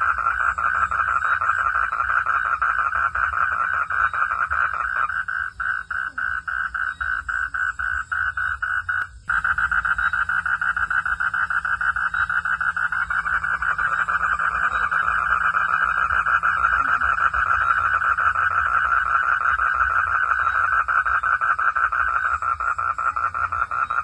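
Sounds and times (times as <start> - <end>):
frogs calling: 0.0 - 24.0.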